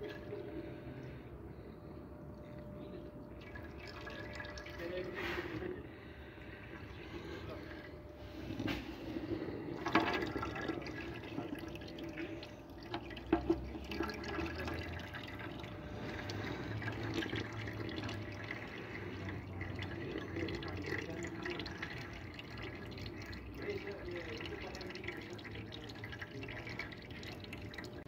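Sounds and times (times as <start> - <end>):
oil trickling and dripping: 0.0 - 28.0.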